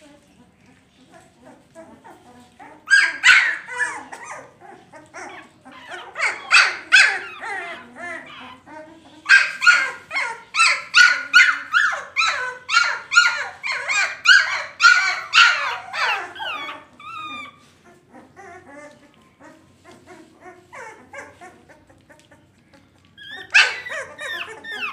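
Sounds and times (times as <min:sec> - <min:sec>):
puppies yelping and whining: 0:00.0 - 0:24.9.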